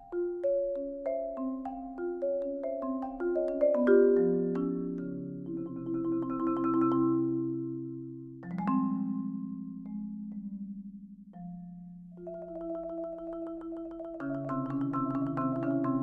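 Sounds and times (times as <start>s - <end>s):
marimba chords: 0.0s - 10.6s, 11.3s - 16.0s.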